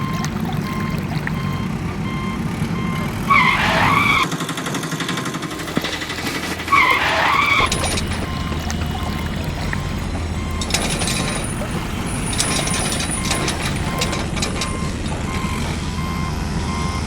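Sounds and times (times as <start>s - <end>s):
wavering squeals: 0.0s - 4.3s, 5.6s - 17.0s
vehicle engine running: 0.0s - 17.0s.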